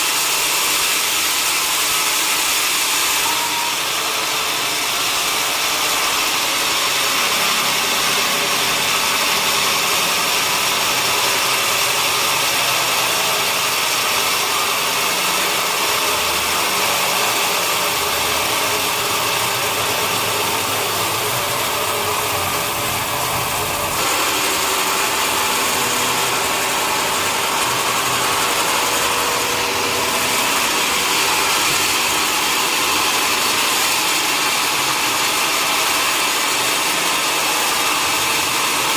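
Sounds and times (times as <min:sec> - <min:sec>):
sawmill log saw running: 0:00.0 - 0:38.9.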